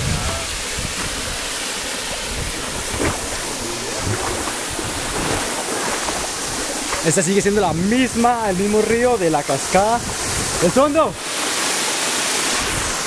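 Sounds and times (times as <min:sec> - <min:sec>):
waterfall pouring into pool: 0:00.0 - 0:13.0.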